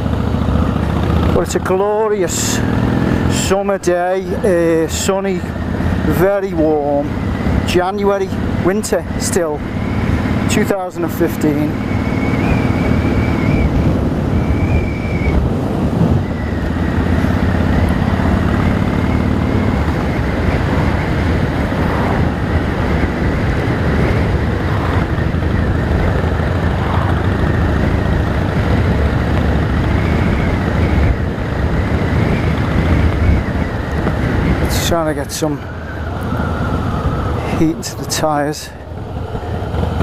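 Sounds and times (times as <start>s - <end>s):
motorcycle engine running: 0.0s - 37.4s
wind rushing over microphone: 0.0s - 40.0s.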